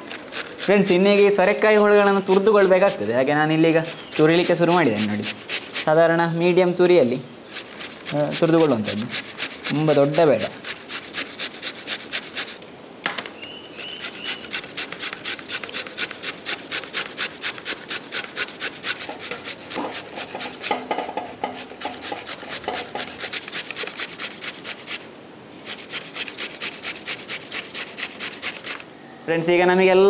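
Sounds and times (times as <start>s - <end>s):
gourd grated on metal grater: 0.0s - 6.0s, 7.5s - 12.6s, 13.8s - 25.0s, 25.6s - 28.8s.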